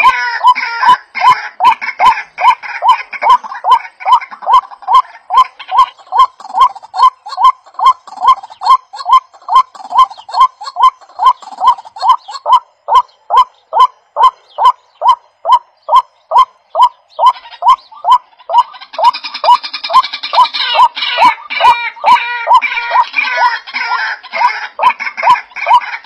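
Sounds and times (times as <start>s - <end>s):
waterhen honking calls: 0.0s - 26.0s.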